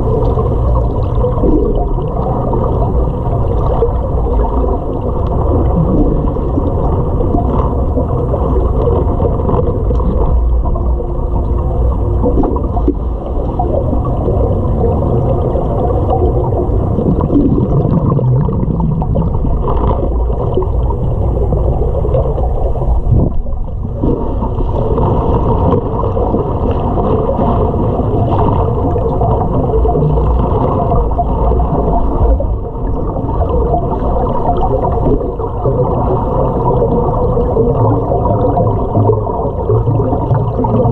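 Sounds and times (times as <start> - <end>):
muffled underwater rumble: 0.0 - 40.9
water gurgling and bubbling: 0.0 - 40.9.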